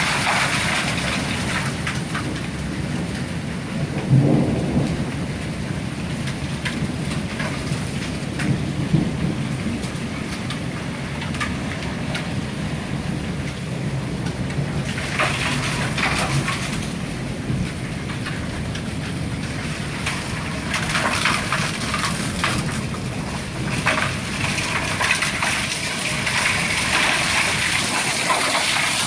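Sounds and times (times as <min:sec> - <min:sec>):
hail falling on the ground: 0:00.0 - 0:29.0.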